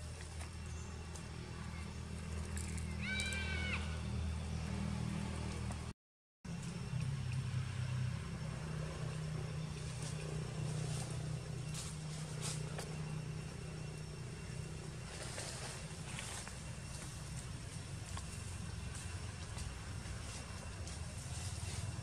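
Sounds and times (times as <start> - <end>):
low mechanical hum: 0.0 - 5.9, 6.5 - 22.0.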